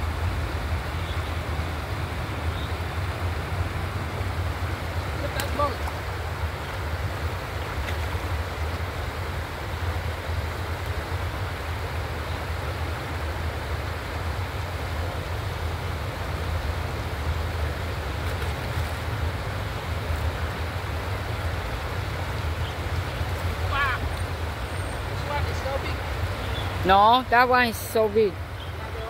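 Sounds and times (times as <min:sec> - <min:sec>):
river rushing over rocks: 0:00.0 - 0:29.0.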